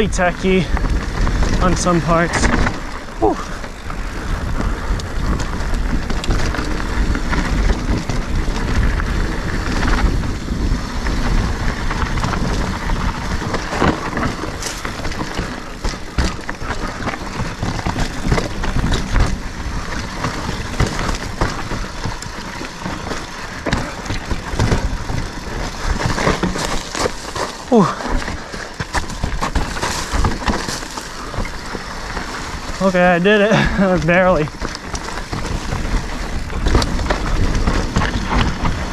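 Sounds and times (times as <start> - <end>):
bike knocking and rattling: 0.0 - 38.9
bike tyres rumbling on rock: 0.0 - 38.9.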